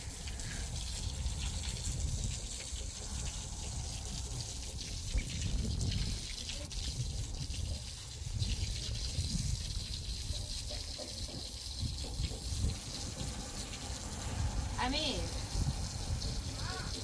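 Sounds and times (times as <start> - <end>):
hose water splashing on concrete: 0.0 - 17.0.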